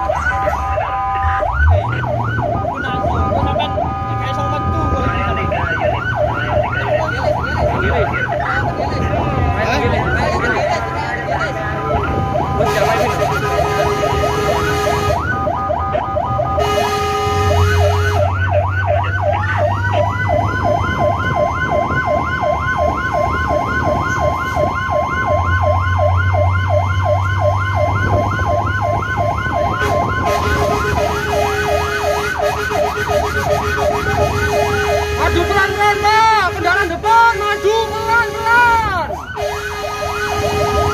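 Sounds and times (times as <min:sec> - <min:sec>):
electronic siren wailing: 0:00.0 - 0:40.9
long steady siren tone: 0:00.0 - 0:40.9.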